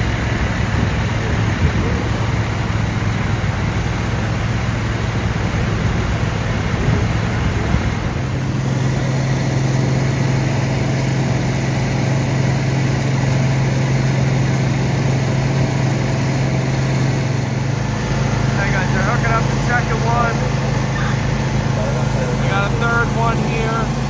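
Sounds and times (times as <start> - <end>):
diesel engine running: 0.0 - 24.0
steady low hum: 0.0 - 24.0.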